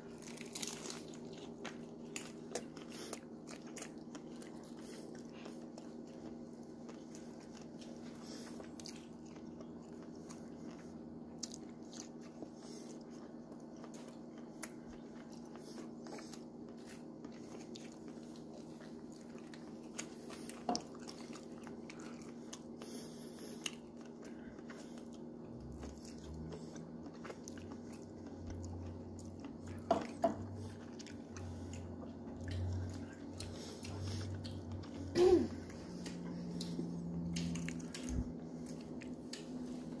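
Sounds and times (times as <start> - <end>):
person chewing food: 0.0 - 40.0
steady low hum: 0.0 - 40.0.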